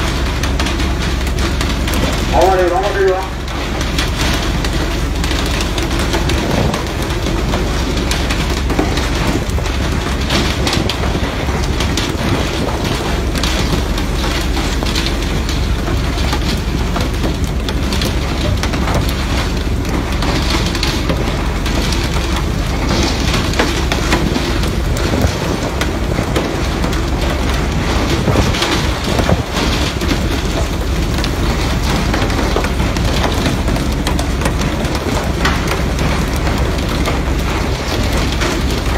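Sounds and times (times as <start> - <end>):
boat engine drone: 0.0 - 38.9
low rumble: 0.0 - 38.9.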